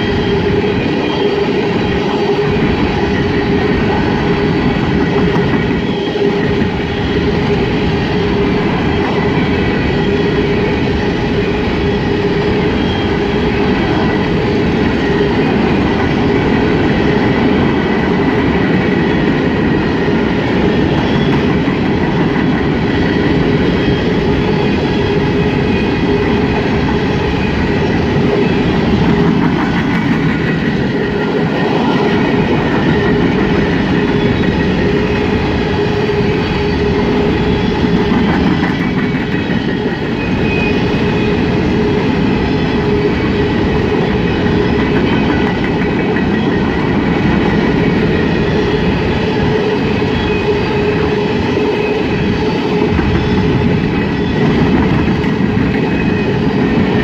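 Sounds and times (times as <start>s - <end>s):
train wheels rolling on rail: 0.0s - 57.0s.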